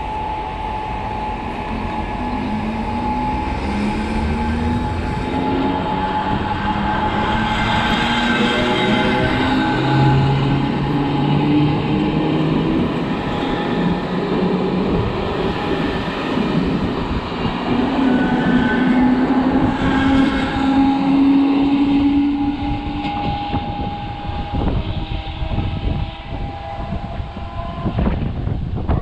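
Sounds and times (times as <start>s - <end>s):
train passing with whine: 0.0s - 29.0s.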